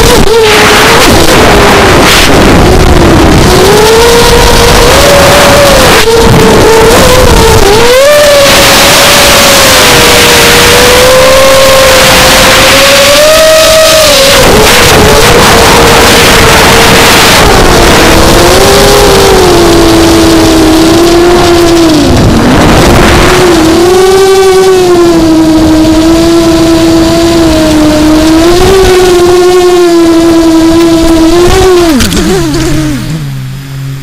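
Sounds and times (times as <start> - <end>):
wind noise: 0.0 - 33.3
quadcopter motors whining: 0.0 - 33.5.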